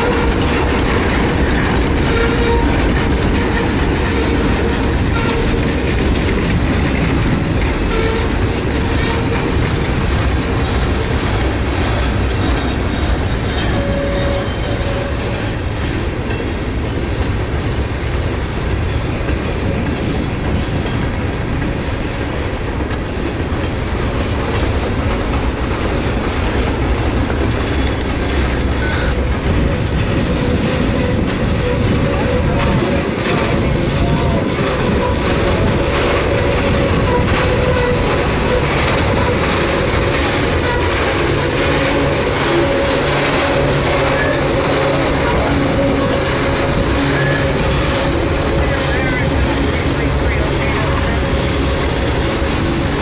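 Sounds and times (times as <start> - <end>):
freight cars rolling past: 0.0 - 53.0
wheels clacking over rail joints: 0.0 - 53.0.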